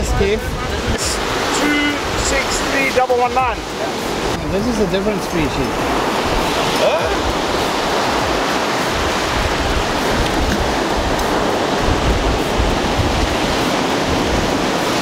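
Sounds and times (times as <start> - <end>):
small waves breaking: 0.7 - 15.0.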